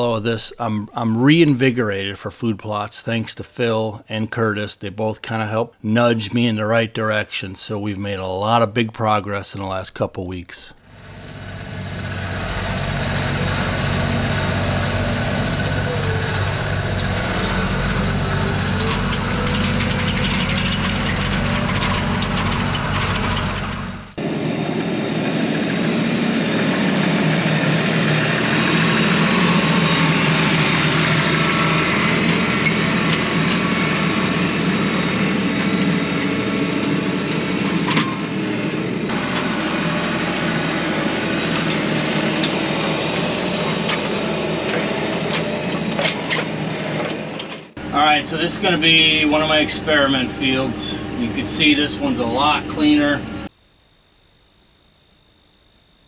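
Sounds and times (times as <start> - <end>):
tractor diesel engine running: 0.0 - 4.5, 10.7 - 53.6.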